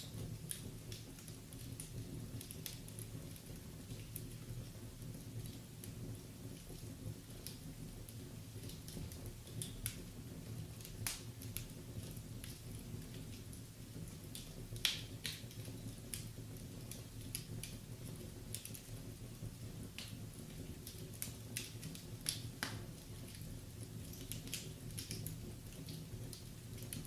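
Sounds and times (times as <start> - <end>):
fire crackles and pops: 0.0 - 27.0
fire flames rumbling: 0.0 - 27.0.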